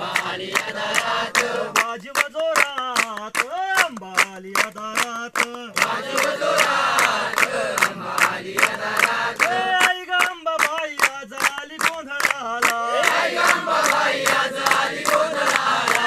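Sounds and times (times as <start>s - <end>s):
group clapping in rhythm: 0.0s - 16.0s
group singing and chanting: 0.0s - 16.0s.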